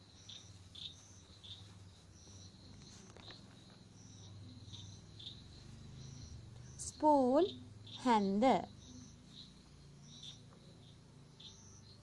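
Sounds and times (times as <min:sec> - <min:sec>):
faint high chirping: 0:00.0 - 0:12.0.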